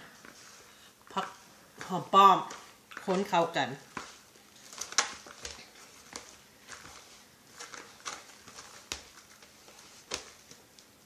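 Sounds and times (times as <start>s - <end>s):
salad mixed in plastic bowl: 0.0s - 11.0s.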